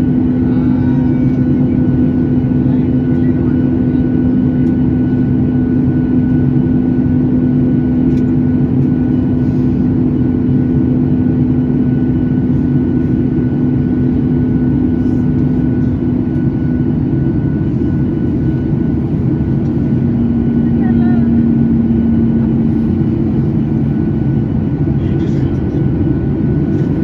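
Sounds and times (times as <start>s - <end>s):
jet engine cabin hum: 0.0s - 27.0s.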